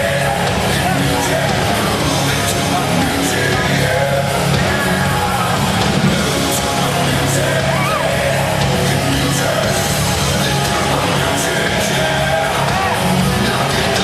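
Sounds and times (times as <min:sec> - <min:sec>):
heavy rock music: 0:00.0 - 0:14.0
person singing or shouting: 0:00.0 - 0:14.0.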